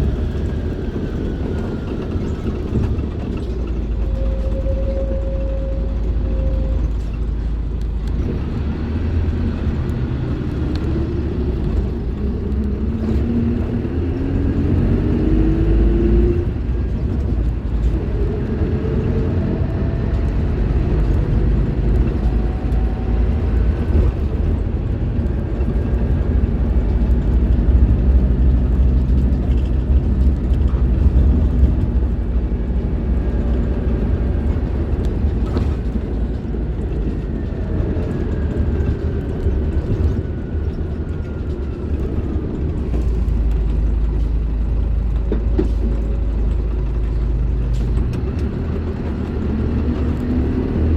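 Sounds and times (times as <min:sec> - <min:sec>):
bus diesel engine rumbling: 0:00.0 - 0:50.9.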